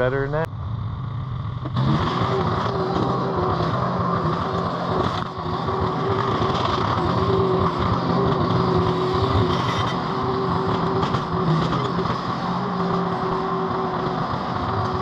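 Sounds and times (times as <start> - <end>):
skid steer engine humming: 0.0 - 15.0.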